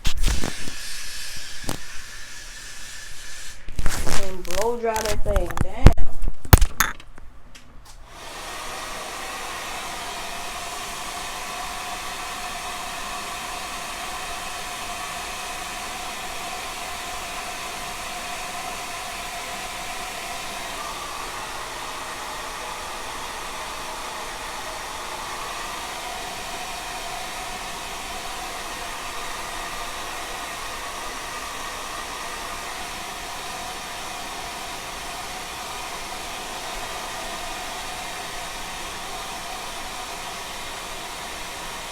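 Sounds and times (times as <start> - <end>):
hair dryer running: 0.0 - 5.6, 7.9 - 41.9.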